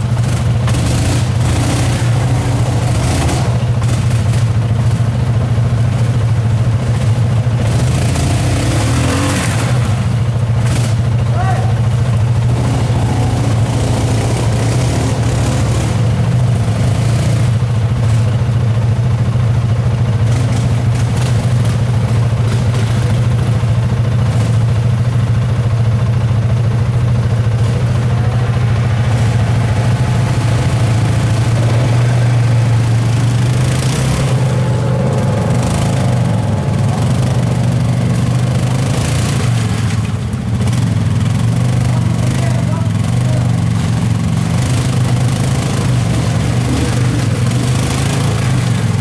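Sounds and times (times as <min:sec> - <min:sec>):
quad engine running at low revs: 0:00.0 - 0:49.0.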